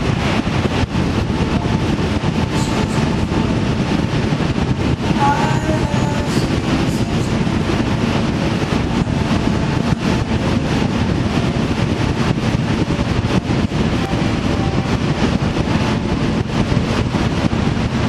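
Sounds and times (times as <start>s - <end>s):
vehicle road noise: 0.0s - 18.0s
wind buffeting microphone: 0.0s - 18.0s.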